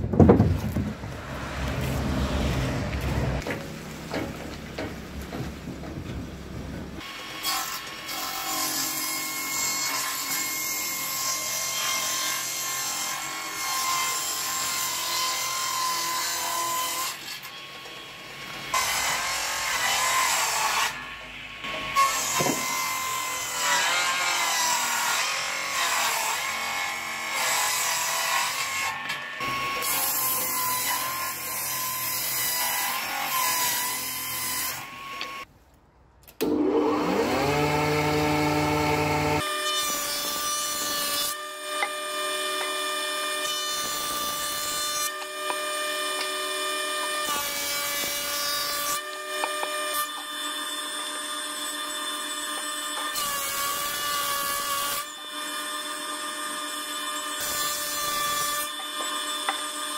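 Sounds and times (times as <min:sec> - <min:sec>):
table saw cutting wood: 0:07.0 - 0:35.5, 0:36.4 - 0:59.9.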